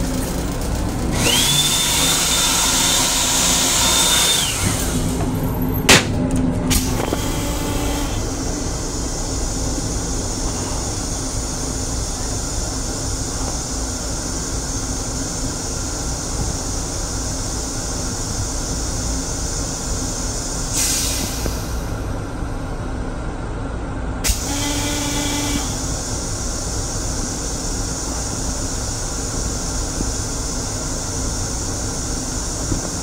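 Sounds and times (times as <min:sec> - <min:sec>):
railcar running rumble: 0:00.0 - 0:33.0.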